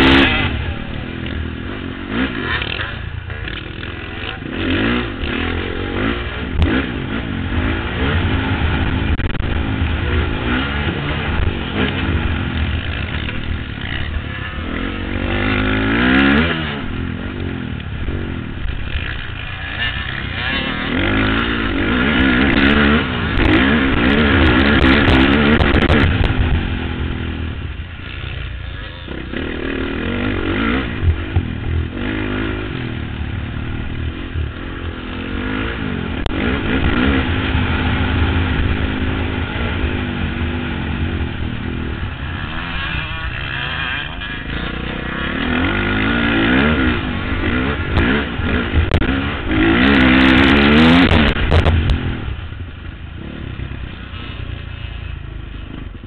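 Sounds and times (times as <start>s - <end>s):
engine crackles: 0.0s - 56.0s
motocross engine revving: 0.0s - 56.0s.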